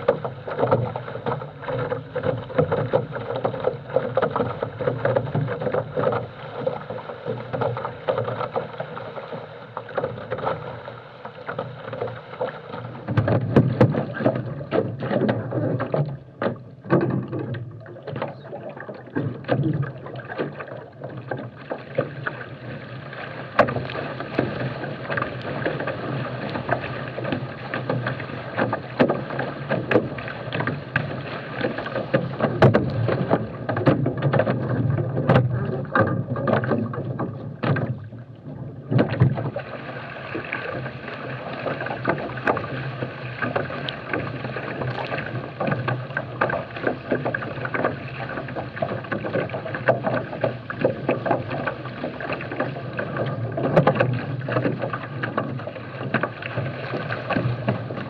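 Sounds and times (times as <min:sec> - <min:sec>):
water rushing against hulls: 0:00.0 - 0:58.0
waves slapping hull: 0:00.0 - 0:58.0.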